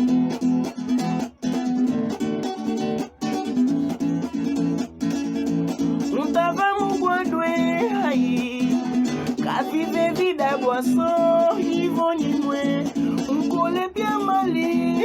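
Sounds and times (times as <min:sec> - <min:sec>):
plucked guitar accompaniment: 0:00.0 - 0:15.0
sliding guitar melody: 0:00.0 - 0:15.0.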